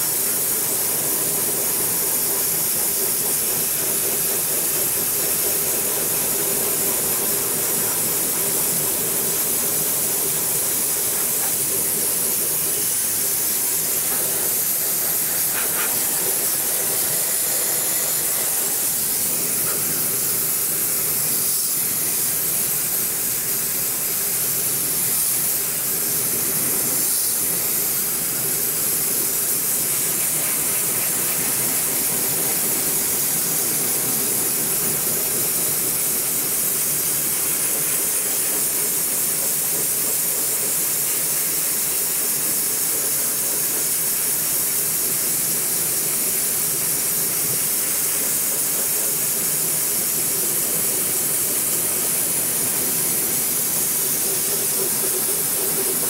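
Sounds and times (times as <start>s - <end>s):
dry ice blaster hissing: 0.0s - 56.0s.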